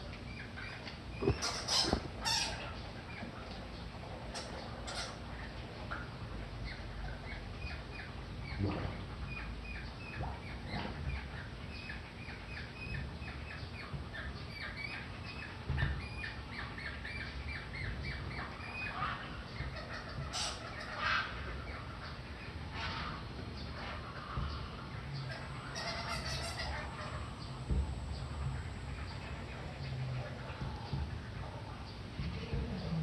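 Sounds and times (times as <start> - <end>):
birds chirping: 0.2 - 33.0.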